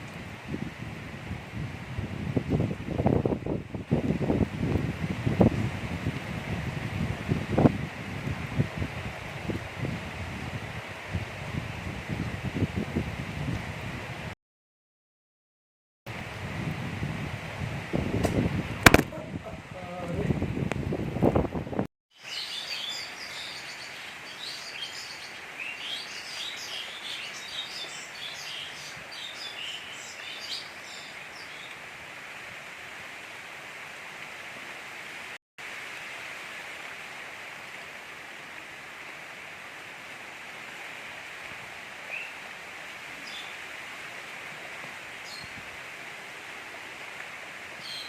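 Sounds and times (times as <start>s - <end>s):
gentle rain hissing: 0.0s - 14.4s, 16.1s - 48.0s.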